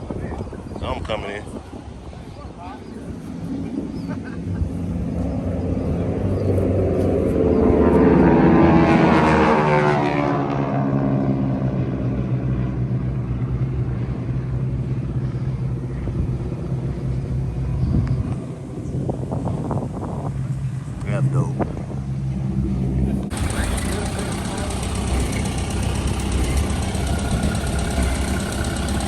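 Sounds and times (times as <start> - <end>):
passing vehicle engine: 3.0 - 18.8, 19.8 - 29.0.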